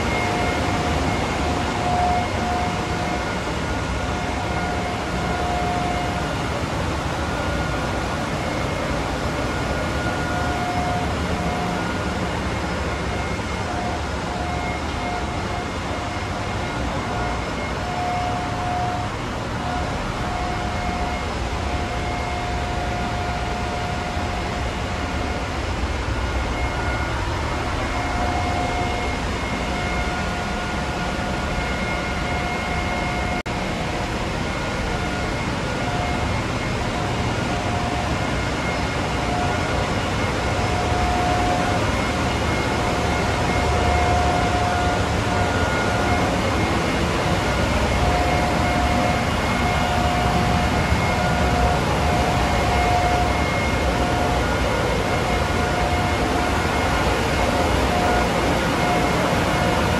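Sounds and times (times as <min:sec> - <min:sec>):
engine room machinery hum and hiss: 0:00.0 - 0:59.9
pitched machinery whine: 0:00.0 - 0:59.9.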